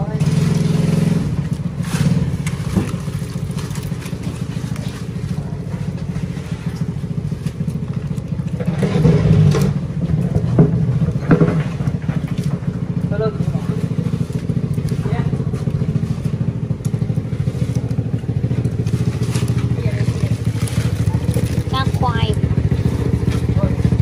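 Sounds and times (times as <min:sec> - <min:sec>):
engine idling: 0:00.0 - 0:24.0
fish slapping in a box: 0:00.3 - 0:24.0.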